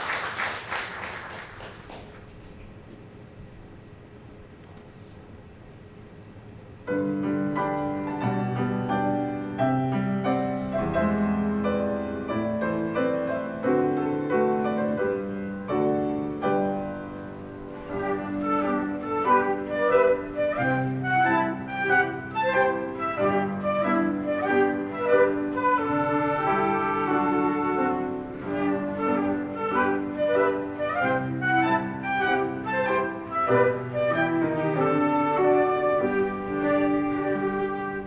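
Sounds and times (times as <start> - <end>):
flute ensemble with piano: 6.8 - 38.0.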